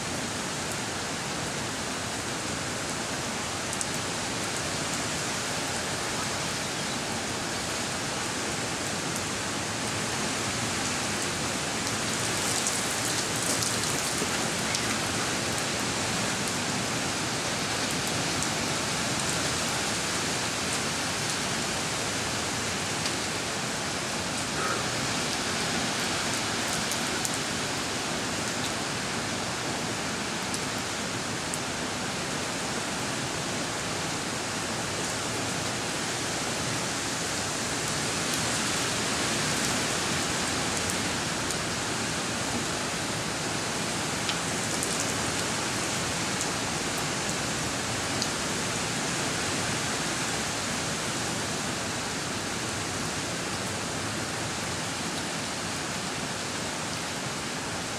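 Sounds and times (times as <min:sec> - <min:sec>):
steady rain hiss: 0:00.0 - 0:57.9.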